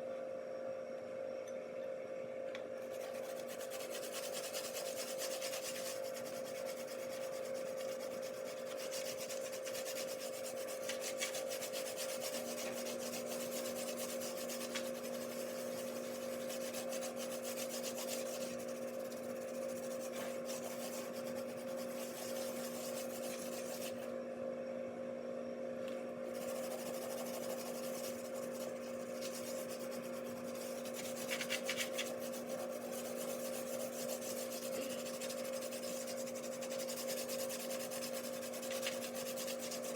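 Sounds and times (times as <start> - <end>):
steady hum: 0.0 - 39.9
tablet scrubbing glass: 2.9 - 24.0, 26.3 - 39.9.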